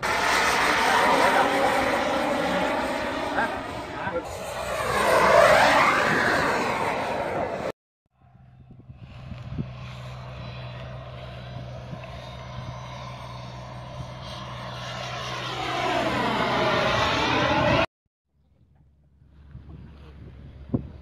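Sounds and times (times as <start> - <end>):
model jet engine passing: 0.0 - 17.9.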